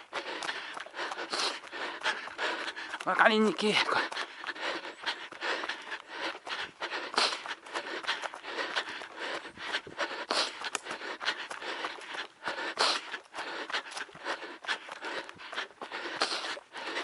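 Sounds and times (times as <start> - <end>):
person breathing hard: 0.0 - 17.0.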